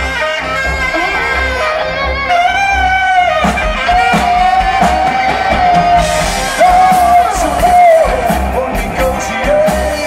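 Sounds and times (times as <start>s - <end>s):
live rock band playing: 0.0s - 10.0s.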